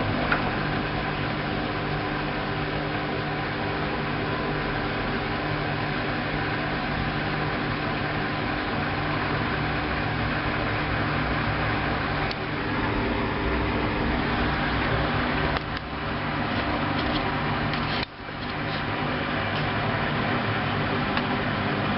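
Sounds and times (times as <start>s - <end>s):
washing machine spinning: 0.0s - 21.9s.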